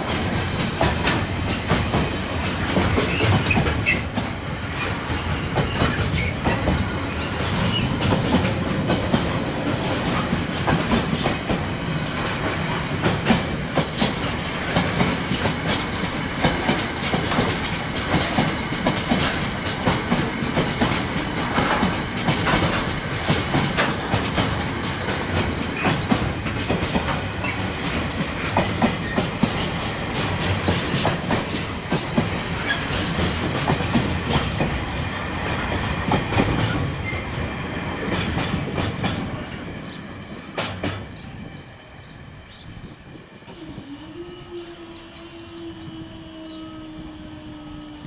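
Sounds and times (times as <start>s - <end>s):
train wheels clattering over rail joints: 0.0s - 42.2s.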